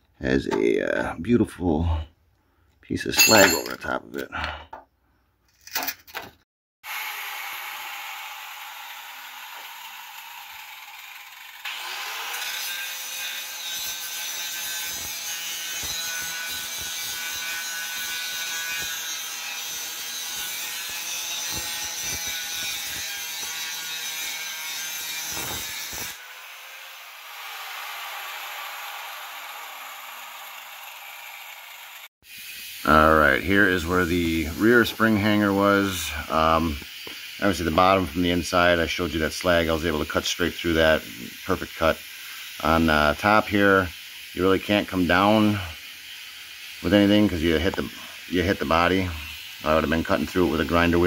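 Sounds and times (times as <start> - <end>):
angle grinder cutting steel: 3.2 - 3.8, 6.9 - 33.0, 33.6 - 51.0.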